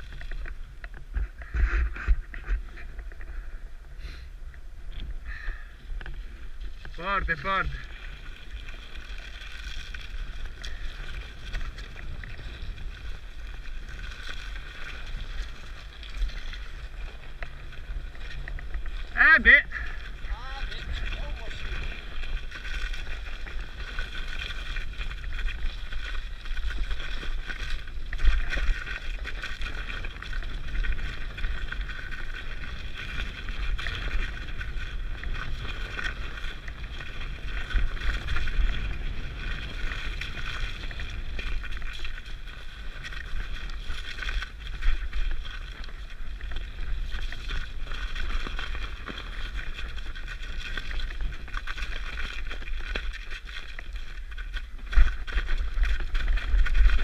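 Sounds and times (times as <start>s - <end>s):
bike tyres rumbling: 0.0s - 57.0s
wind on microphone: 0.0s - 57.0s.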